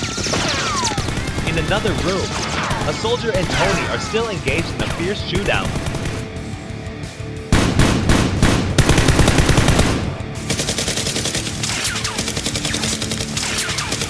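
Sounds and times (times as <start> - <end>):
automatic gunfire: 0.0 - 4.0, 4.7 - 6.4, 7.5 - 14.0
faint background music: 0.0 - 14.0.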